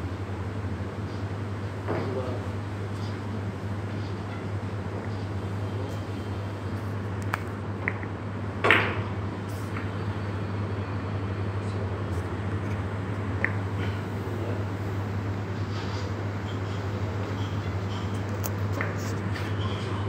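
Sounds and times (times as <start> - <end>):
steady low room hum: 0.0 - 20.0.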